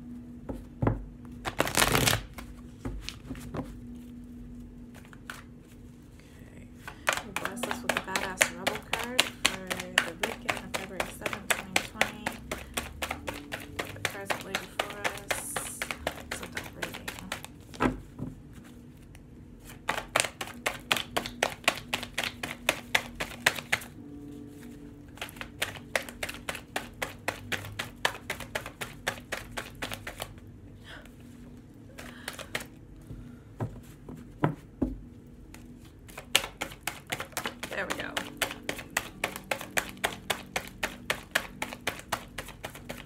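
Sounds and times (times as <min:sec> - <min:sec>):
cards being shuffled: 0:01.2 - 0:06.1, 0:06.8 - 0:30.4, 0:31.4 - 0:32.8, 0:35.4 - 0:43.0.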